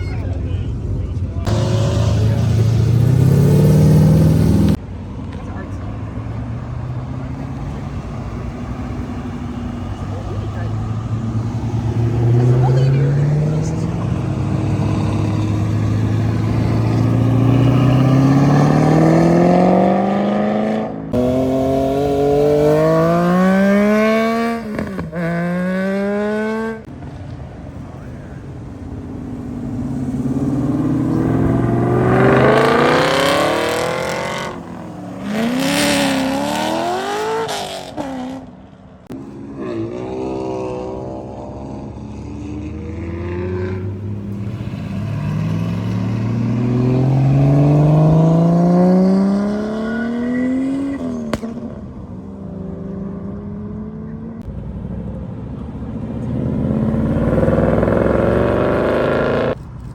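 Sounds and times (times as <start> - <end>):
car engines revving and accelerating: 0.0 - 59.9.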